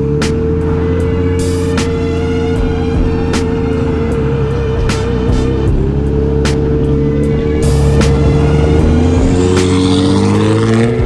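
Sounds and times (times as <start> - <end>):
background music: 0.0 - 11.0
vehicle engine and road noise: 0.0 - 11.0.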